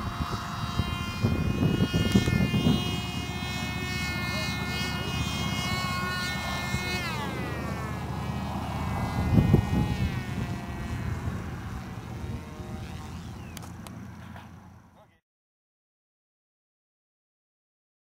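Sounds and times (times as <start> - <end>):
wind buffeting microphone: 0.0 - 14.5
electric motor and propeller whining: 0.0 - 15.2.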